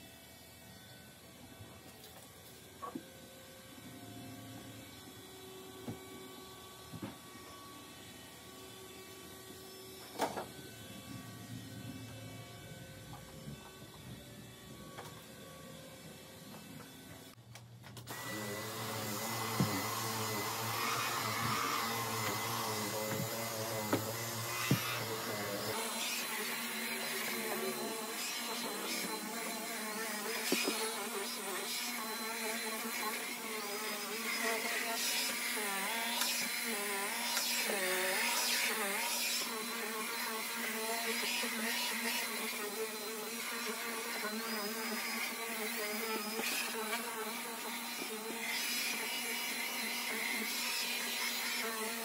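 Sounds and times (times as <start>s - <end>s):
cordless vacuum whining: 0.3s - 52.0s.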